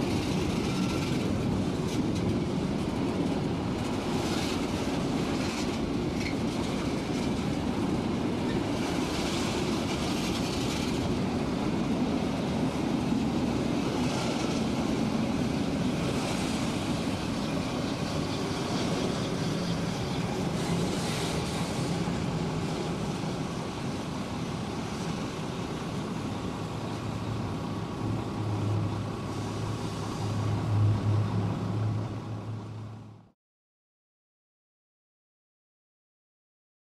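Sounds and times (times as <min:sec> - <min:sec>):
train wheels on rails: 0:00.0 - 0:32.8.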